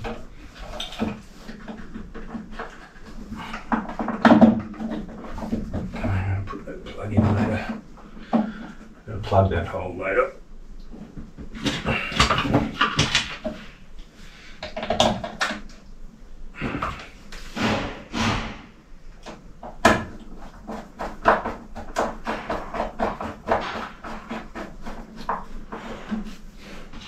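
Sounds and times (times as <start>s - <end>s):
knocks clicks and scraping on fittings: 0.0s - 9.1s, 10.8s - 15.9s, 19.2s - 27.0s.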